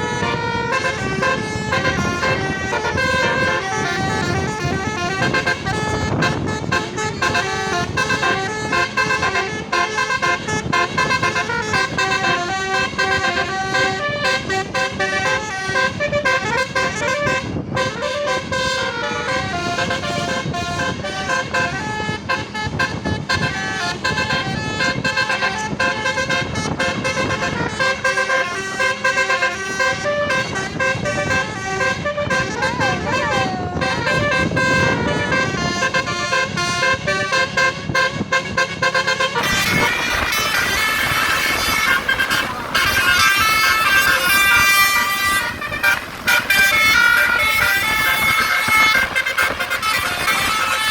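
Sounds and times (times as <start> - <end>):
bus horns playing fast melody: 0.0 - 50.9.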